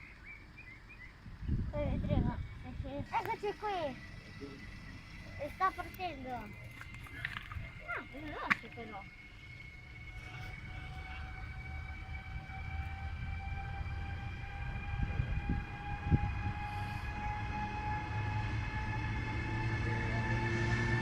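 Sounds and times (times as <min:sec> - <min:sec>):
electric whine rising in pitch: 0:00.0 - 0:21.0
train rumble: 0:01.0 - 0:21.0.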